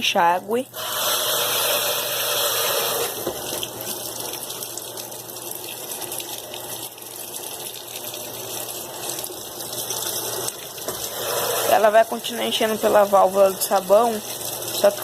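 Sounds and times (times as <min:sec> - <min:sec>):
water rushing into washing machine: 0:00.0 - 0:15.0.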